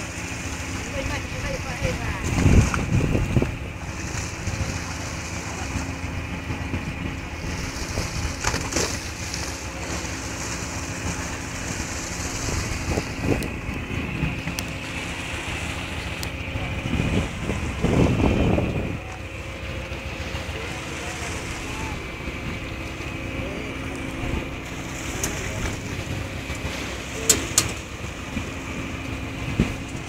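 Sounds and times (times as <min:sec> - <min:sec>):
boat engine running: 0:00.0 - 0:30.0
wind on microphone: 0:00.9 - 0:30.0.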